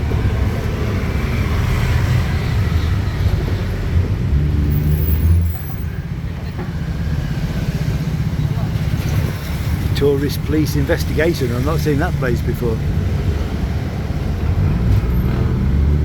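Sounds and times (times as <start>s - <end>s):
road traffic noise: 0.0s - 16.0s
vehicle engine rumble: 0.0s - 16.0s.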